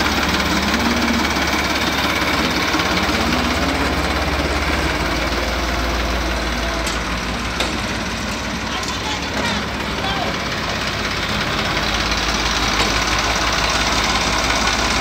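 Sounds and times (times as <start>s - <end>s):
tractor engine low rumble: 0.0s - 15.0s.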